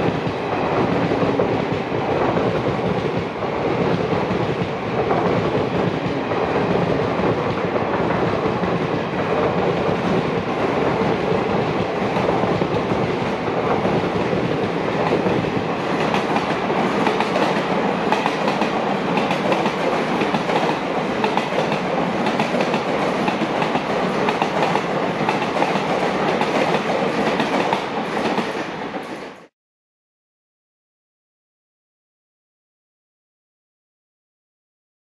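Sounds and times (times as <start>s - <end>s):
train wheels rumbling on rail: 0.0s - 29.5s.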